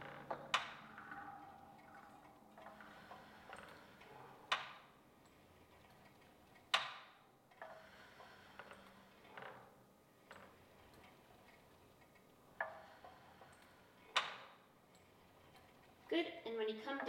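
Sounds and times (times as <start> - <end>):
exercise machine clacks: 0.0 - 17.0.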